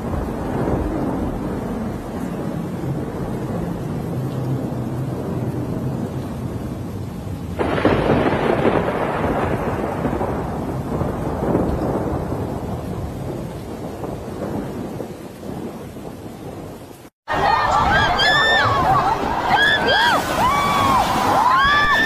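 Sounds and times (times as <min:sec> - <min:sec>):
heavy rain: 0:00.0 - 0:22.0
thunder rumbling: 0:00.0 - 0:22.0.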